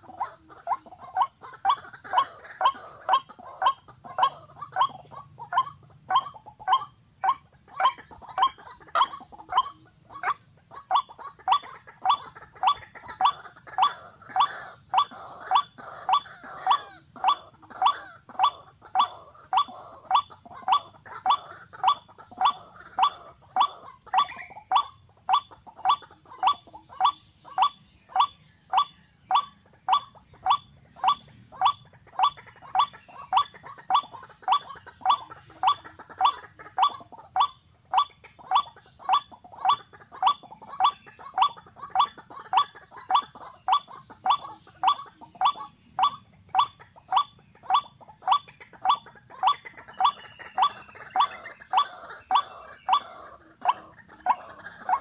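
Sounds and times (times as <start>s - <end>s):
waterhen calling: 0.0s - 55.0s.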